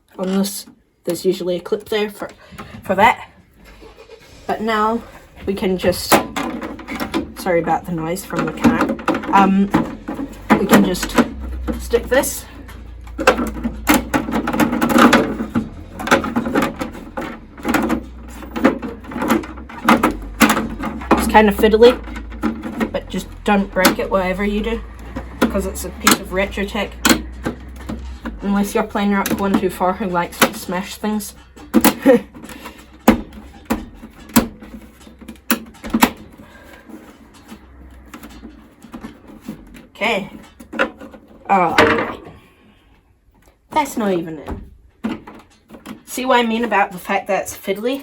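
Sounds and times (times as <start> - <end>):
plastic parts knocking and clicking: 6.1 - 42.4, 44.4 - 46.8.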